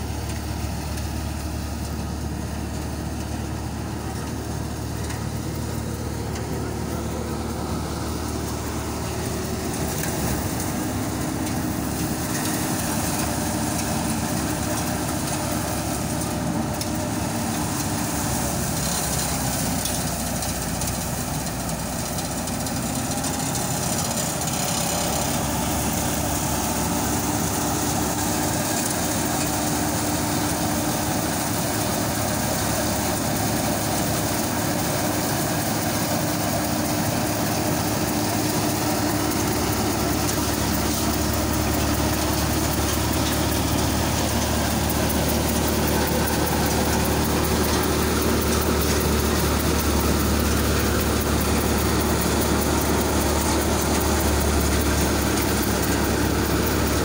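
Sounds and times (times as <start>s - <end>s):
low engine hum: 0.0s - 57.0s
wheat thresher running: 0.0s - 57.0s.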